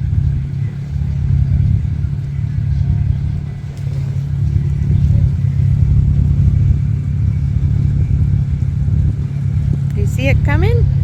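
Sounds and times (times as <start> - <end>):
atv engine running under load: 0.0 - 11.0.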